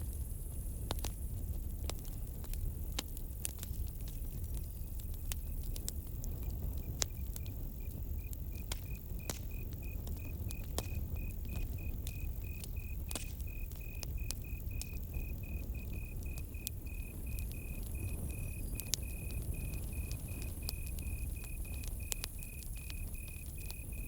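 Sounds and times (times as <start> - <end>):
campfire crackling: 0.0 - 24.0
cricket chirping: 3.3 - 24.0.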